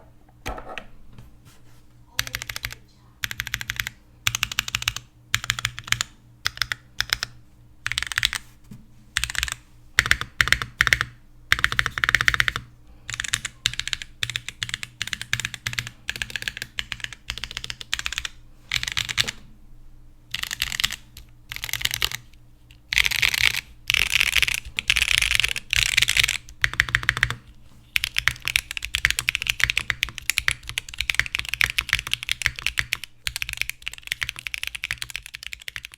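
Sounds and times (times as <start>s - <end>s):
mechanical keyboard typing: 2.2s - 8.4s, 9.2s - 19.4s, 20.3s - 35.9s.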